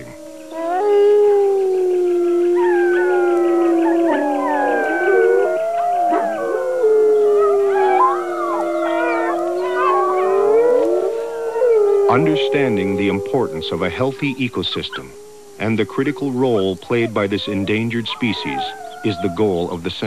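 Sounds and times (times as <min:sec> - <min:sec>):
children howling like wolves: 0:00.0 - 0:20.0.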